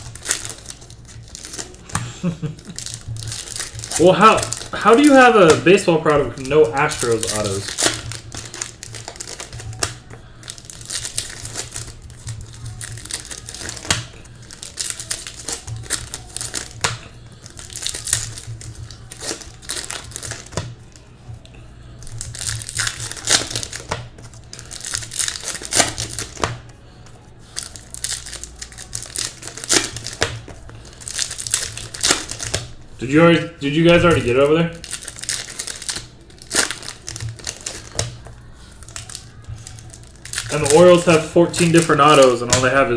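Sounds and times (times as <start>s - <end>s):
wrappers crinkling and tearing: 0.0s - 42.9s.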